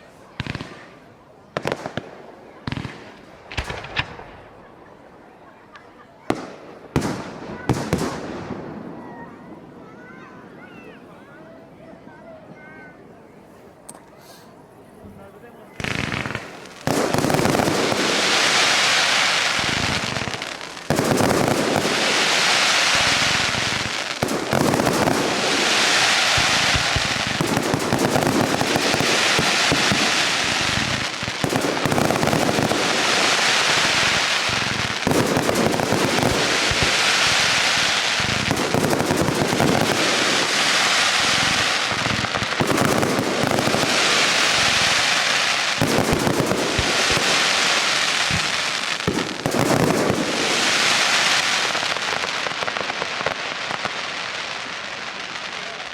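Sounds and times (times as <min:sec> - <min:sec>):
fireworks bangs and crackling: 0:00.0 - 0:13.1, 0:13.8 - 0:55.9.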